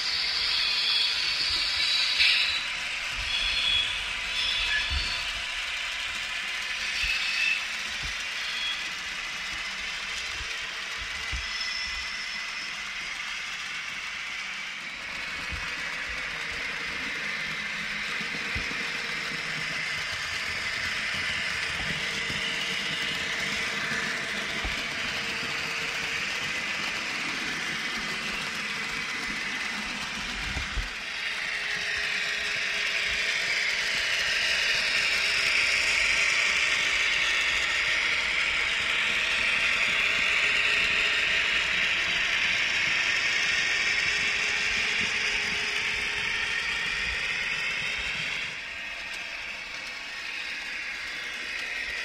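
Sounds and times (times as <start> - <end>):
model train rattling on track: 0.0 - 52.0.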